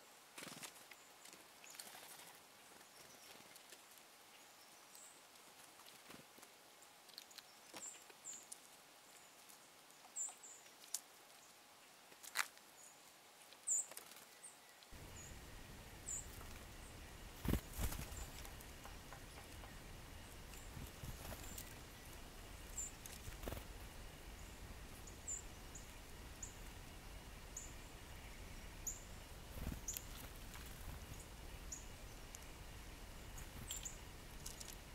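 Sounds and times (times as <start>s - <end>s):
small birds chipping: 0.0s - 34.9s.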